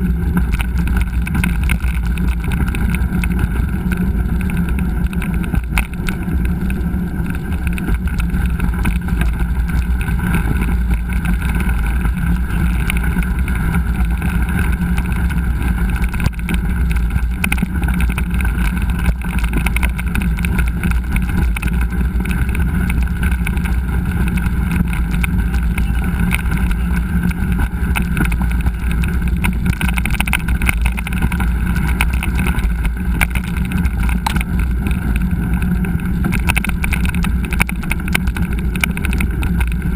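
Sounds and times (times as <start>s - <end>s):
bike clattering over rough trail: 0.0s - 39.9s
wind rumble on microphone: 0.0s - 39.9s.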